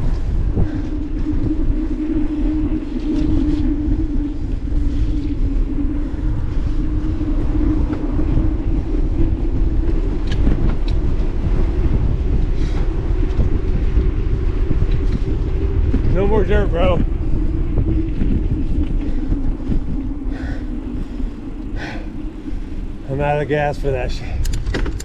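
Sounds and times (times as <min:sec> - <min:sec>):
bike hum on road: 0:00.0 - 0:25.0
wind rushing over microphone: 0:00.0 - 0:25.0.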